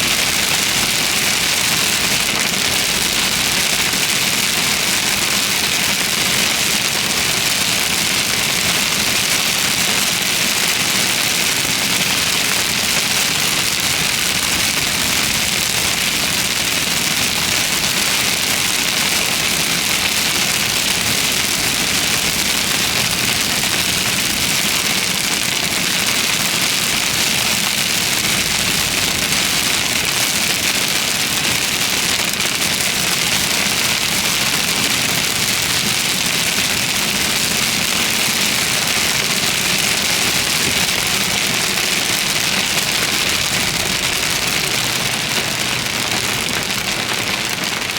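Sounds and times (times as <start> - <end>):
heavy rain on a car: 0.0 - 47.9.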